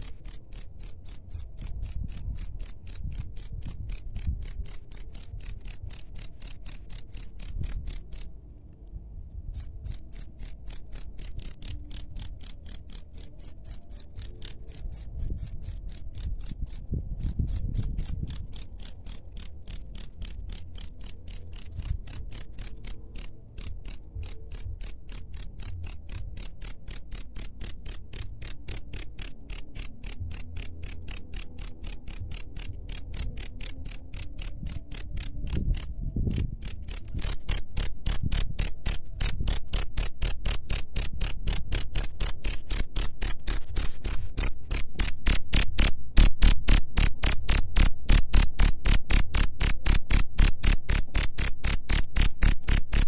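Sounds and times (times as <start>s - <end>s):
cricket chirping: 0.0s - 8.3s, 9.2s - 53.0s.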